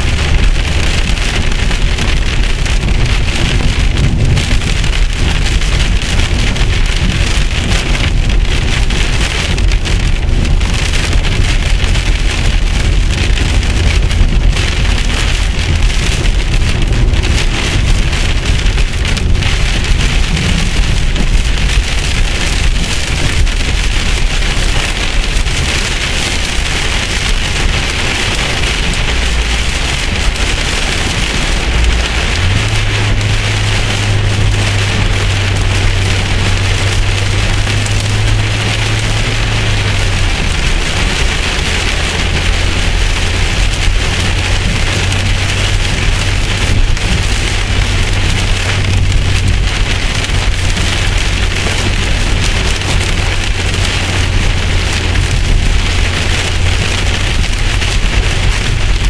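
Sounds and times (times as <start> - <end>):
heavy rain on car roof: 0.0 - 59.0
low road rumble: 0.0 - 59.0.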